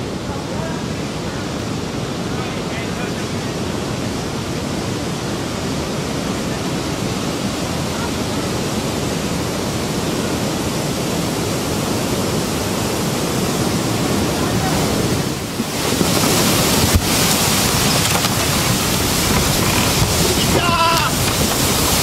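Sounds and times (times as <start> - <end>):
surf roaring on shore: 0.0 - 22.0.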